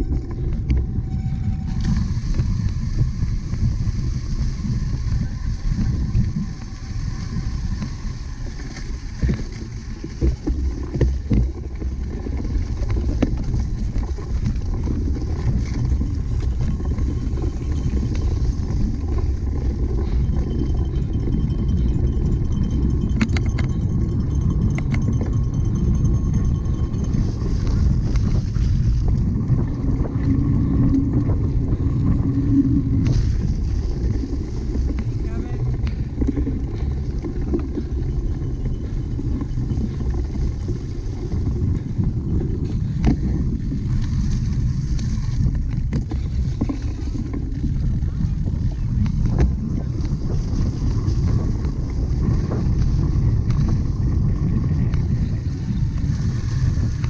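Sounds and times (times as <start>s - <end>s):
bike rolling over rough ground: 0.0s - 57.0s
wind buffeting microphone: 0.0s - 57.0s
sharp clicks and rattles: 7.4s - 55.2s.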